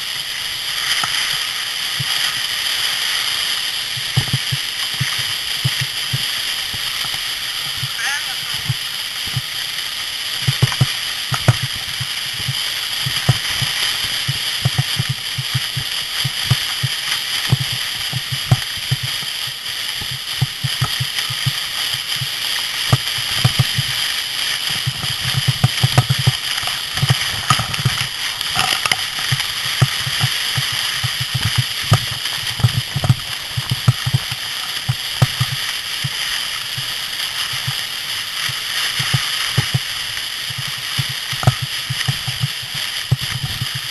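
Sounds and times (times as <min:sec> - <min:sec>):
sled scraping on snow: 0:00.0 - 0:43.9.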